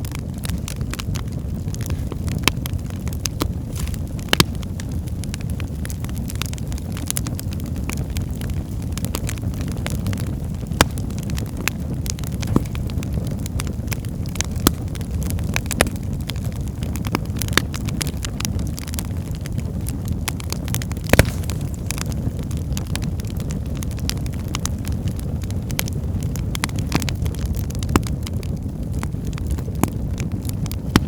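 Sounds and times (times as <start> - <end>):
low rumble of flames: 0.0 - 31.0
sharp pops of fire: 0.0 - 31.0
wood fire crackling: 0.0 - 31.0.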